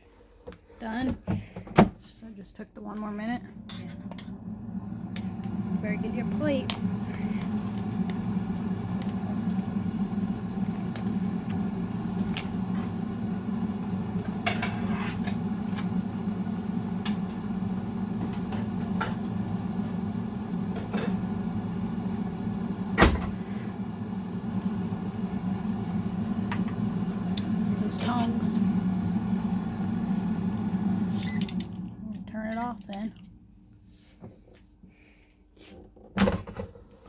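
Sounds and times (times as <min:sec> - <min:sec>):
air fryer fan humming: 0:00.0 - 0:37.0.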